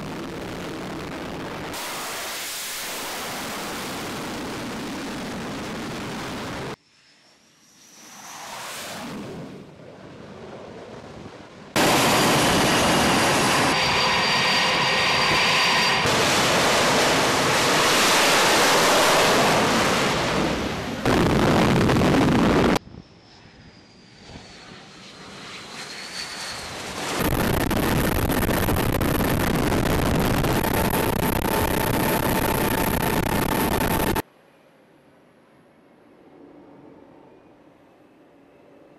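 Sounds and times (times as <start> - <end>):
jet engine noise with whine: 0.0 - 38.9.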